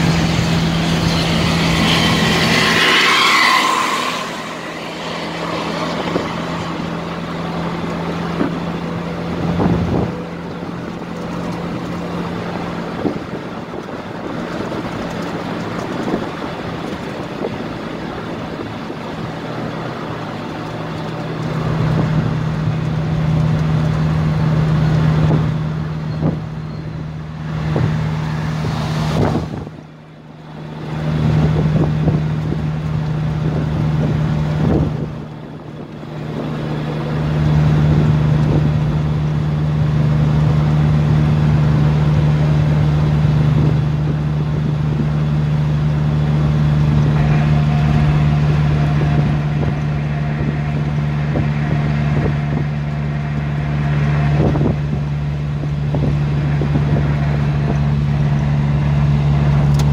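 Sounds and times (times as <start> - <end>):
car engine drone: 0.0 - 59.9
tyre and road noise: 0.0 - 59.9.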